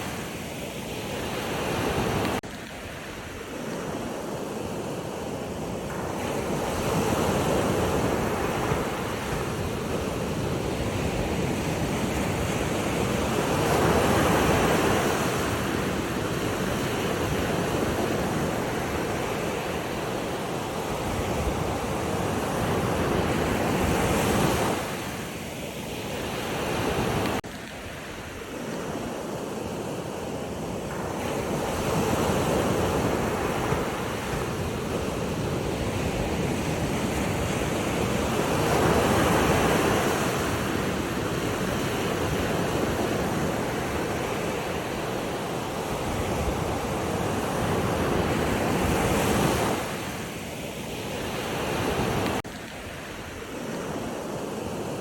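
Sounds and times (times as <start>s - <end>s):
surf washing in: 0.0s - 55.0s.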